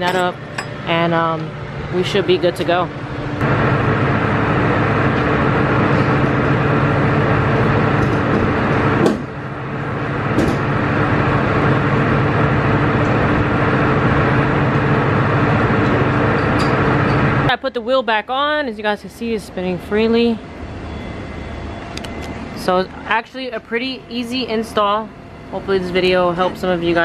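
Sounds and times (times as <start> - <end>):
loud mechanical hum: 0.0 - 27.0.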